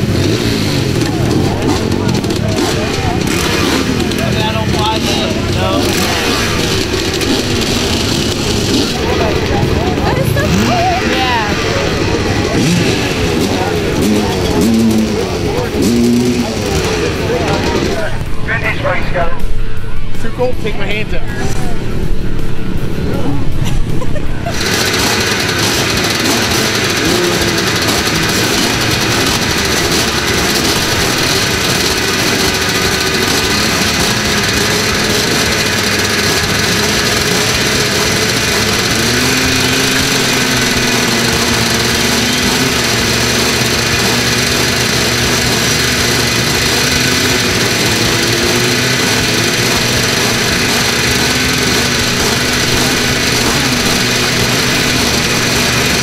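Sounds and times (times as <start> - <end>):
dirt bike engines running: 0.0 - 56.0
dirt bike revving: 0.0 - 56.0.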